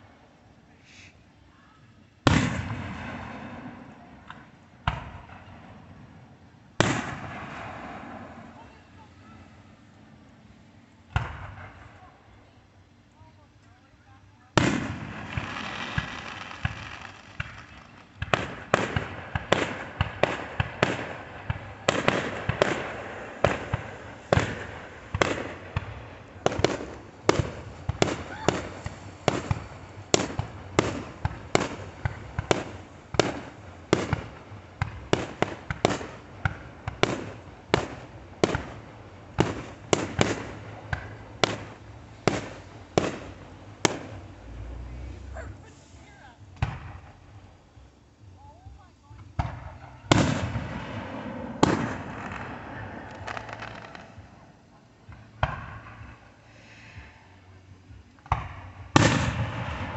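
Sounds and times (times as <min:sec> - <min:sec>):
fireworks hissing and crackling: 0:00.0 - 0:59.9
firework bangs: 0:02.2 - 0:06.2, 0:06.8 - 0:09.4, 0:11.1 - 0:12.1, 0:14.5 - 0:47.9, 0:49.1 - 0:57.1, 0:58.2 - 0:59.9.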